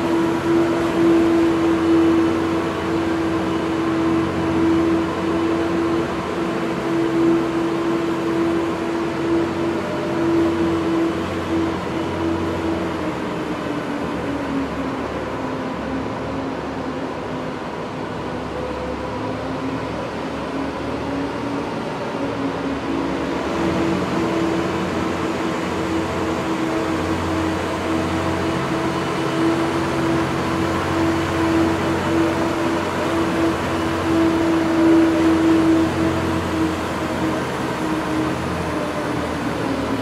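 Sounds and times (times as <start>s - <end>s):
ice resurfacer engine humming: 0.0s - 40.0s.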